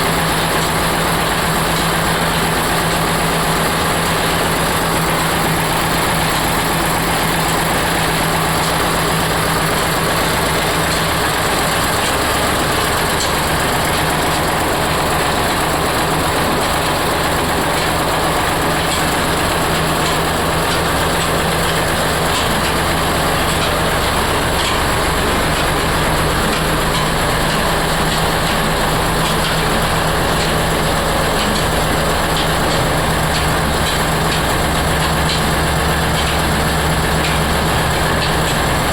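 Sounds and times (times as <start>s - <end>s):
oil expeller machine humming: 0.0s - 38.9s.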